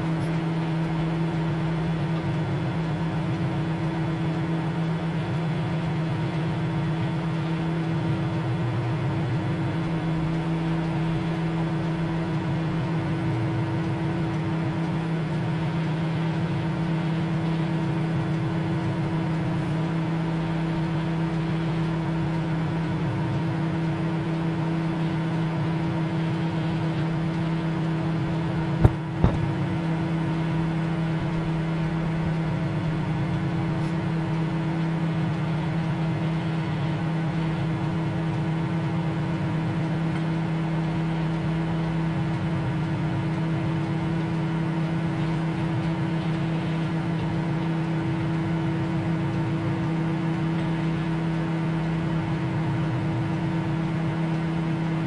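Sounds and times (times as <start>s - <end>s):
microwave oven humming: 0.0s - 55.0s.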